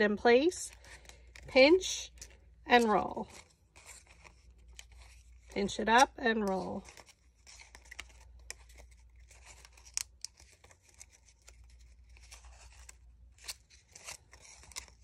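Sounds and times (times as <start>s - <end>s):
cardstock rustling and crinkling: 0.4s - 15.0s
paper crackles: 0.4s - 15.0s.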